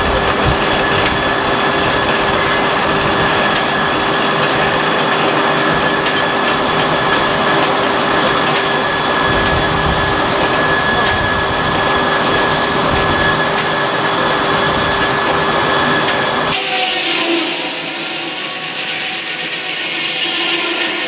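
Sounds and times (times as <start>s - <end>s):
high whine: 0.0s - 21.0s
sawmill machinery din: 0.0s - 21.0s.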